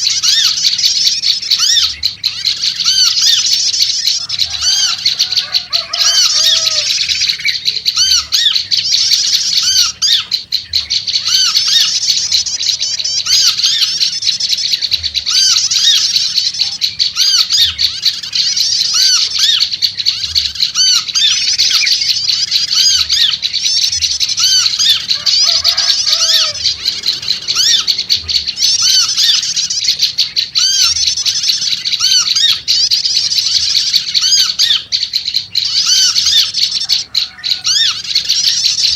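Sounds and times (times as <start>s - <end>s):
birds chattering high chirps: 0.0s - 38.9s
repeated lower bird chirp: 0.0s - 38.9s
warbling bird notes: 0.0s - 38.9s.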